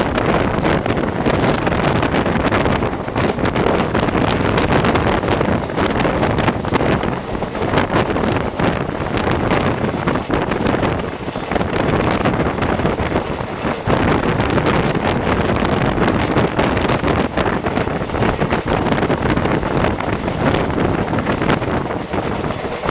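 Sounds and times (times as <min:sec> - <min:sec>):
train running noise: 0:00.0 - 0:22.9
wheel-on-rail clatter: 0:00.0 - 0:22.9
wind buffeting microphone: 0:00.0 - 0:22.9.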